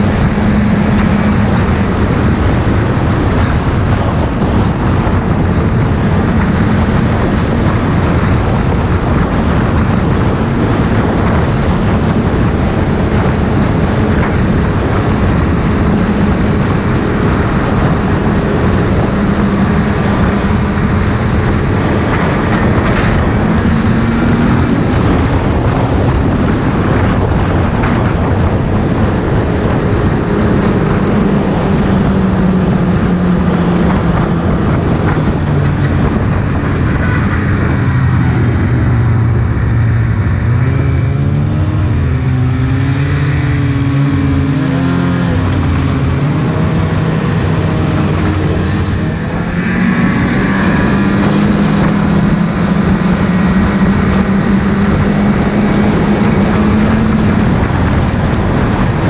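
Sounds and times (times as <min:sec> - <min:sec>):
rushing noise: 0:00.0 - 0:59.0
snowmobile engine running: 0:00.0 - 0:59.0.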